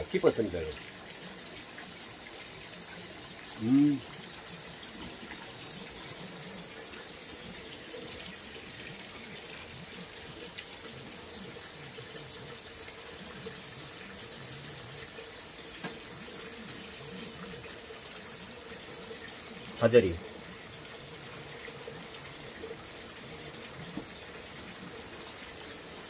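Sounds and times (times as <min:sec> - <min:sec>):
water running from tap: 0:00.0 - 0:26.0.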